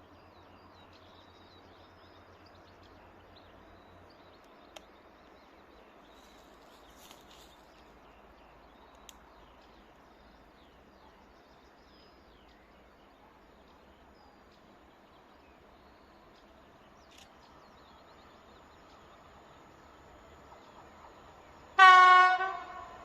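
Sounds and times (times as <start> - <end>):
small birds chirping: 0.0 - 21.8
low background hiss: 0.0 - 23.0.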